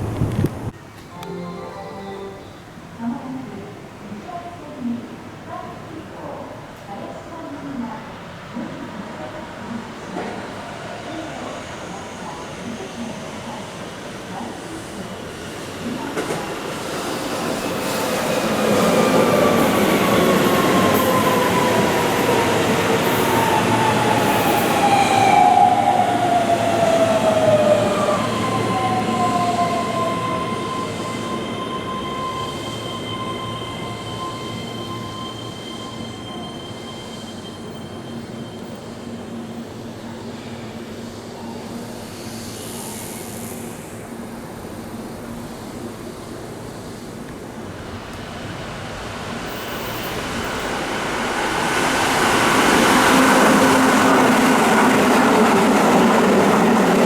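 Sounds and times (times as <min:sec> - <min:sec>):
electric train passing: 0:00.0 - 0:03.6, 0:09.2 - 0:57.0.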